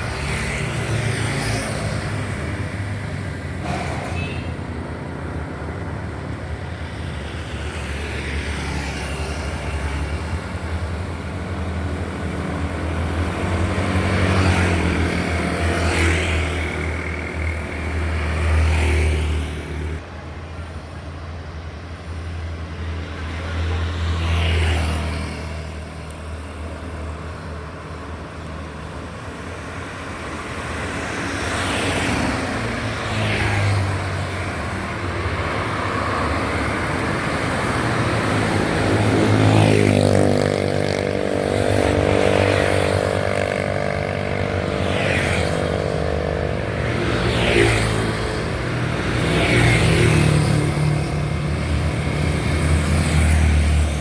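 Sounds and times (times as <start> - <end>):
trucks passing: 0.0 - 54.0.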